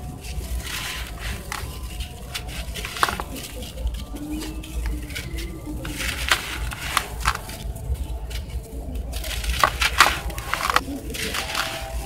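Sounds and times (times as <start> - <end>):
dry dirt crunching by hand: 0.0 - 12.0.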